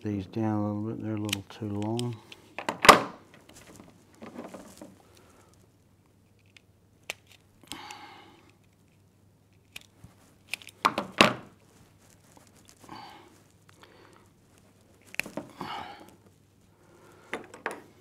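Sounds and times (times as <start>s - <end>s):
cable rustling: 1.2s - 18.0s.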